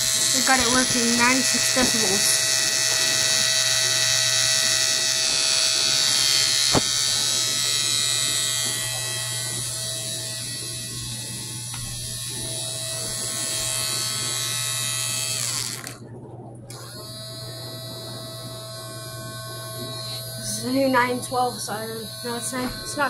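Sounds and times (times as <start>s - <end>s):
high-pitched motor siren: 0.0s - 23.0s.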